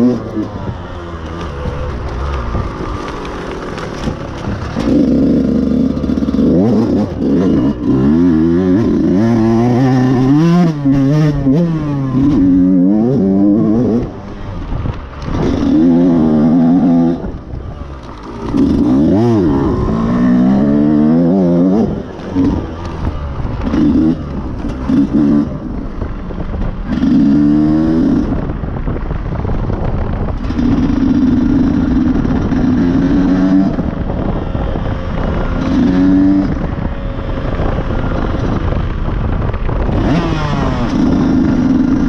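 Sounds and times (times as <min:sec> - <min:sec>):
dirt bike engine revving: 0:00.0 - 0:25.8, 0:26.8 - 0:28.6, 0:30.3 - 0:42.0.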